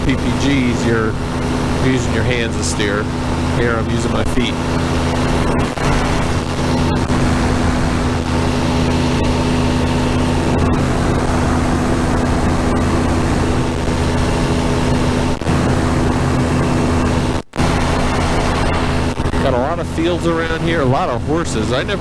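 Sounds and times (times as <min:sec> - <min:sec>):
engine and propeller droning: 0:00.0 - 0:22.0.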